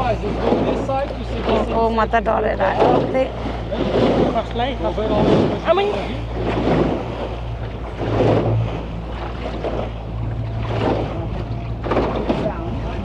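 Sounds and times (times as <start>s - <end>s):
boat engine droning: 0.0s - 13.0s
rough sea rushing: 0.0s - 13.0s
wind buffeting microphone: 0.0s - 13.0s.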